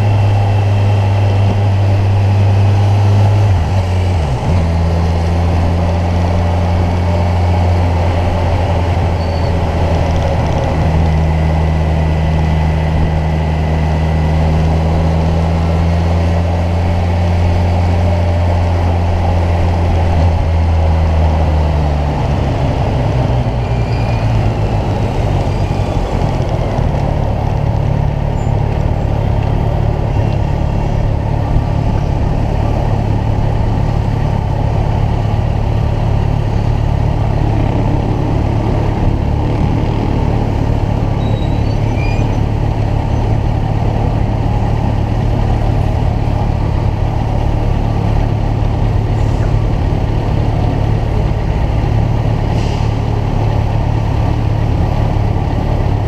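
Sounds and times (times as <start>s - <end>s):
wind noise: 0.0s - 56.0s.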